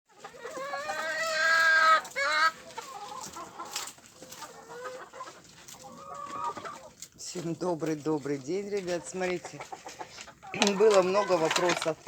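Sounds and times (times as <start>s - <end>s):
chickens clucking and calling: 0.1s - 12.0s.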